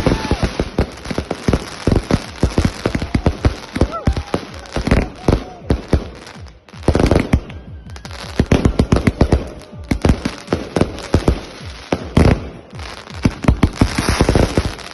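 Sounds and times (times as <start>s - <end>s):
firework cake bangs and crackling: 0.0s - 14.9s.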